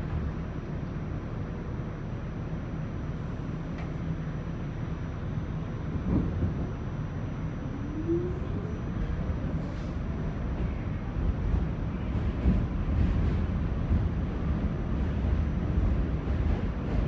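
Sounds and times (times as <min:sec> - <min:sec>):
subway car rumble: 0:00.0 - 0:17.0.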